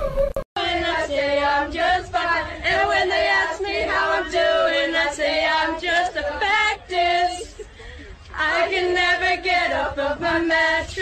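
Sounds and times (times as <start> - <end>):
voices singing a chant: 0.0 - 7.5, 8.3 - 11.0.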